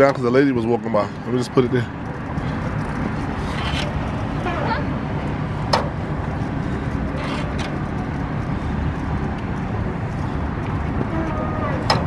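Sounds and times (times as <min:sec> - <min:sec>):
street background rumble: 0:00.0 - 0:12.0.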